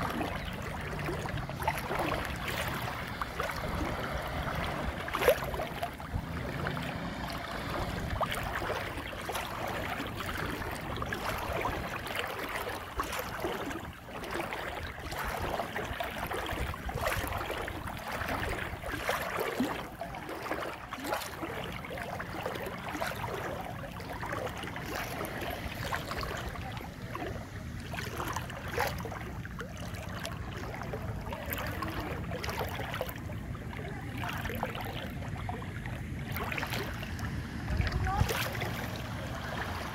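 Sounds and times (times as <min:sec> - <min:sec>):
wading through water splashing: 0:00.0 - 0:39.9.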